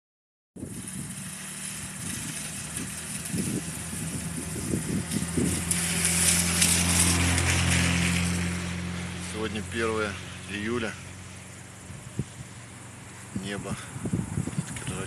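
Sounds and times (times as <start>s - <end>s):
vehicle engine humming: 0.6s - 15.0s
vehicle passing hiss: 0.6s - 15.0s.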